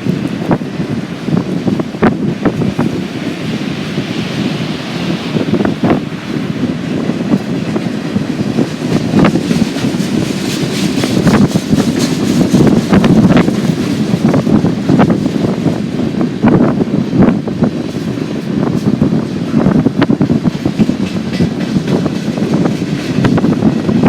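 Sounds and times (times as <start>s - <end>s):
freight train rolling: 0.0s - 24.0s
train clanks and clicks: 0.0s - 24.0s
wind buffeting microphone: 0.0s - 24.0s.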